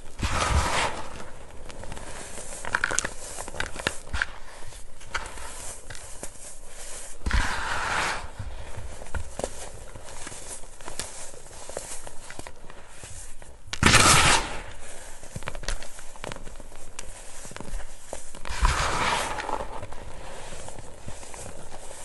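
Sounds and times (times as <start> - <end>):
hands sifting powder crackling: 0.0 - 22.0.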